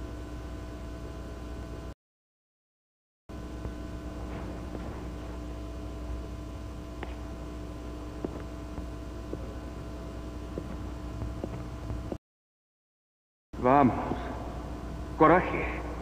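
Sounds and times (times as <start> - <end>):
low hum with hiss: 0.0 - 2.0, 3.3 - 12.2, 13.6 - 16.0.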